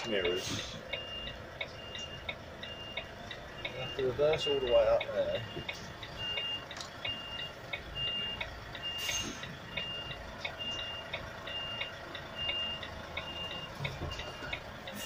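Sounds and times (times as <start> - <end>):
reversing alarm beeping: 0.0 - 15.0.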